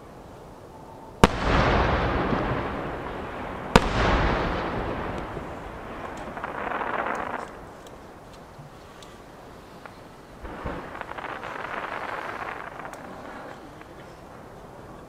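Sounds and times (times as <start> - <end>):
firework shells bursting: 1.2 - 14.0.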